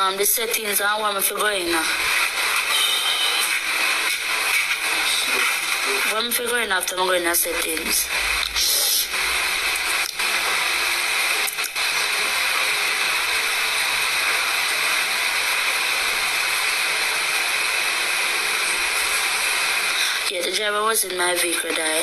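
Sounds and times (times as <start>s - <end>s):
loud hissing noise: 0.0s - 22.0s.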